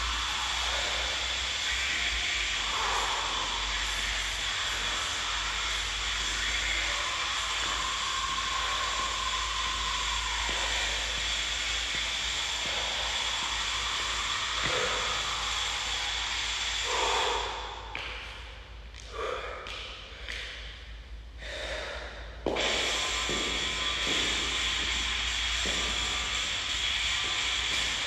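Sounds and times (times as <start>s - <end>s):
exhaust fan hissing and whining: 0.0s - 28.0s
man breathing hard: 0.0s - 28.0s.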